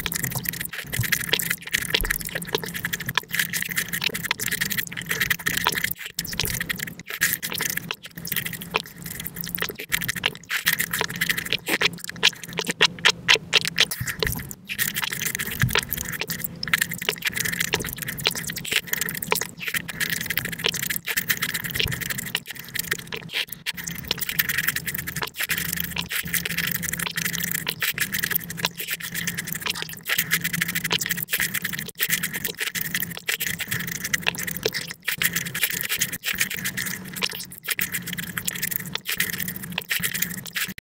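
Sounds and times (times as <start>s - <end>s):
spoon scraping fruit rind: 0.0s - 40.8s
wet chewing and slurping: 0.0s - 40.8s.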